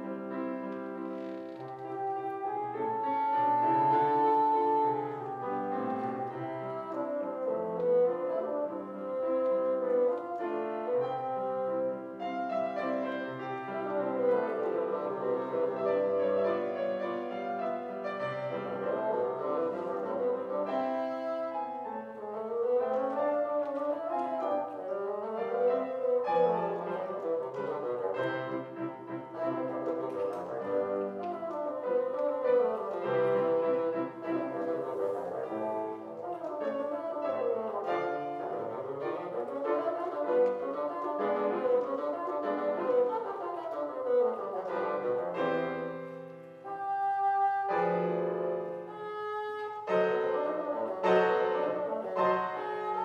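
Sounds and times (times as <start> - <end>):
grand piano accompaniment: 0.0 - 53.0
wind instrument melody: 0.0 - 53.0.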